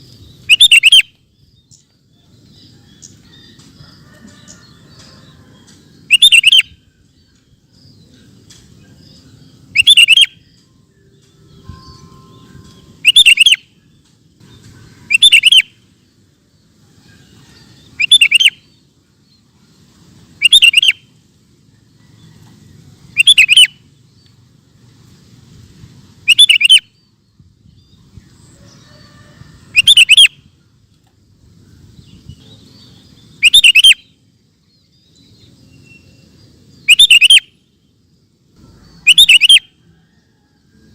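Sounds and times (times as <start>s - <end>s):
bulbul singing: 0.0s - 24.6s, 26.2s - 28.8s, 29.7s - 30.6s, 31.4s - 39.9s.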